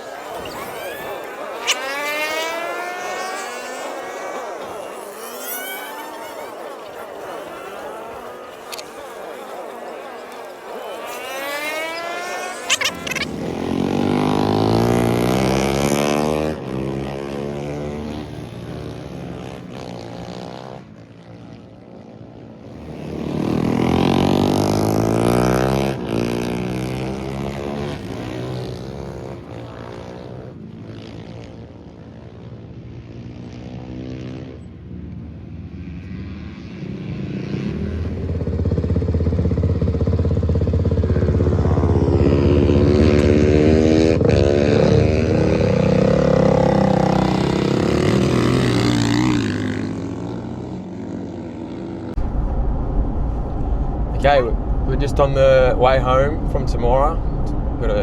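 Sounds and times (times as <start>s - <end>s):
race motorcycle engine passing: 0.0s - 58.0s.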